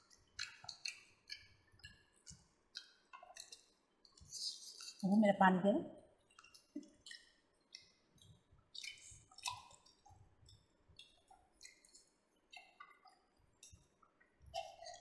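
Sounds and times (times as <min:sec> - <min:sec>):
people chewing: 0:00.0 - 0:05.1, 0:06.2 - 0:15.0.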